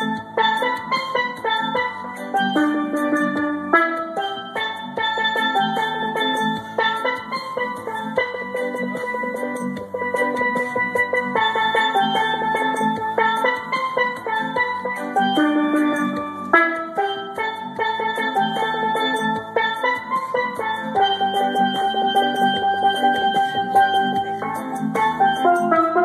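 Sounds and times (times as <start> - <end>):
steel drum music: 0.0 - 26.0.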